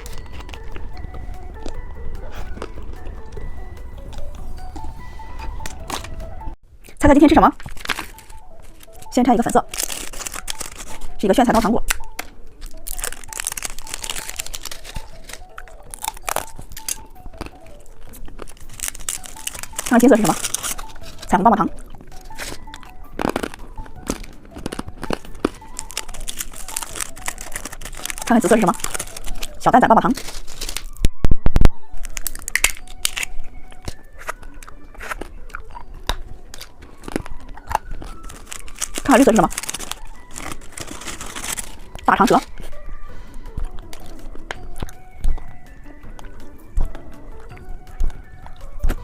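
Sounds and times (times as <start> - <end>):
plastic wrapper crinkling: 0.0 - 6.6, 7.6 - 31.1, 31.8 - 49.0.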